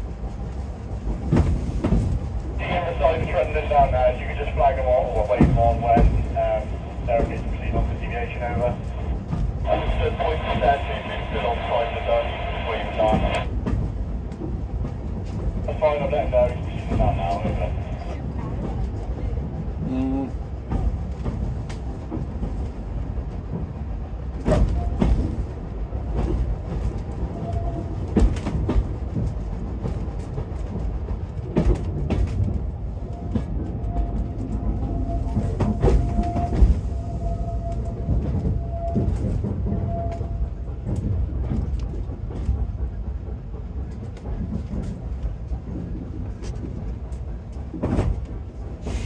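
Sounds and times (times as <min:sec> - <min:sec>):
train wheels rumbling: 0:00.0 - 0:49.0.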